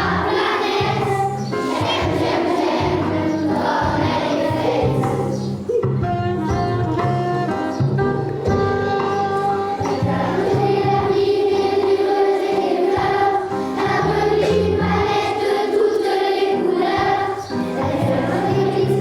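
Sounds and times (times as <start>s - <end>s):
choir singing: 0.0s - 5.6s, 9.1s - 19.0s
instrumental accompaniment with bass: 0.0s - 15.6s, 16.7s - 19.0s.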